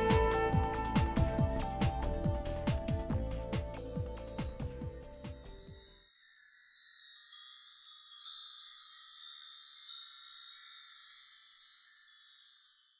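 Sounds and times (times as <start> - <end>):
shimmering chimes in soundtrack music: 0.0 - 12.9.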